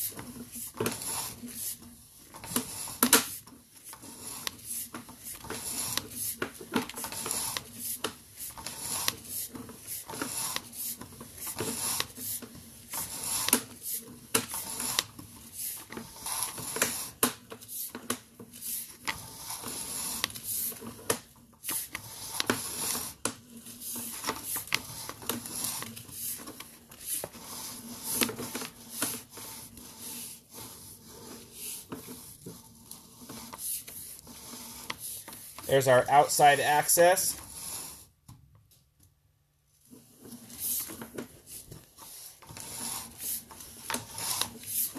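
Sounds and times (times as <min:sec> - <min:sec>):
cable rubbing and scraping: 0:00.0 - 0:38.2, 0:39.8 - 0:44.9.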